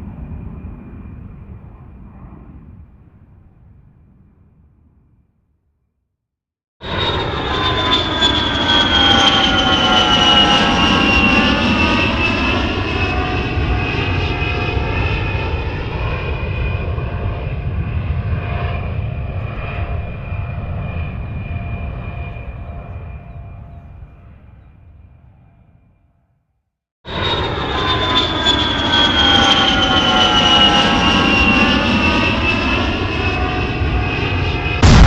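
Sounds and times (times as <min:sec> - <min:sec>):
jet aircraft rumble: 0:00.0 - 0:05.3, 0:06.8 - 0:26.0, 0:27.1 - 0:35.0.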